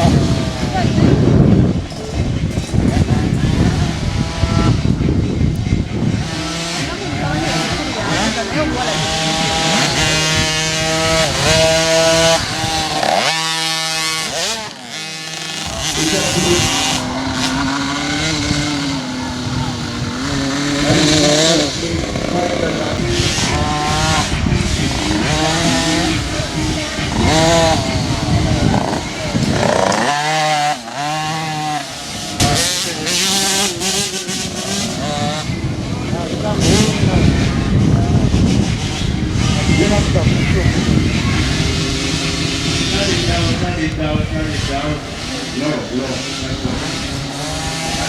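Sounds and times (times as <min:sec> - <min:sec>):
motocross engines revving: 0:00.0 - 0:48.0
steady engine note: 0:00.0 - 0:48.0.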